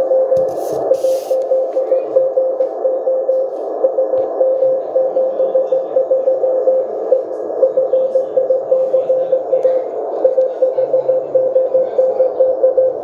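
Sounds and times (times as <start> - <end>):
morse code tone: 0.0 - 13.0
receiver hiss: 0.0 - 13.0.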